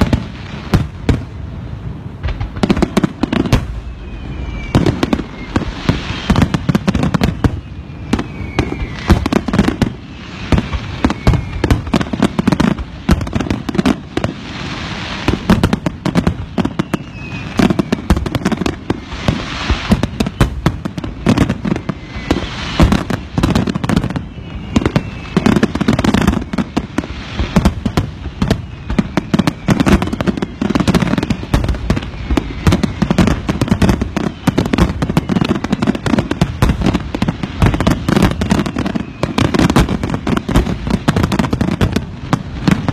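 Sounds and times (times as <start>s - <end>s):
fireworks bangs and crackles: 0.0s - 42.9s
falling firework whistles: 2.2s - 42.9s.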